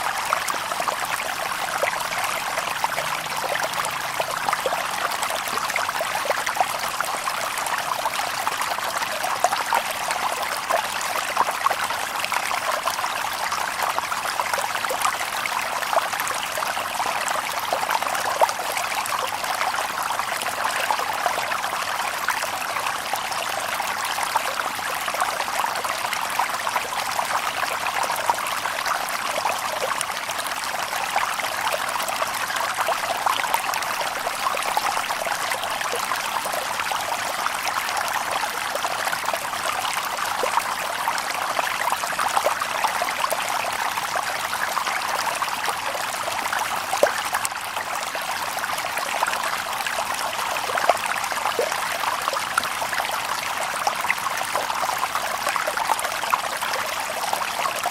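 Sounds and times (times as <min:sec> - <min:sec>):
stream babbling over stones: 0:00.0 - 0:57.9.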